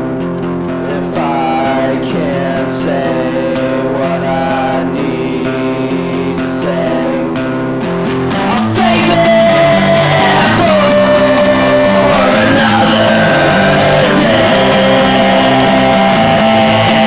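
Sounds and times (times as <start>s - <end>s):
bass guitar: 0.0s - 17.0s
strummed guitar chords: 0.0s - 17.0s
person singing long notes: 0.8s - 7.4s, 8.3s - 17.0s.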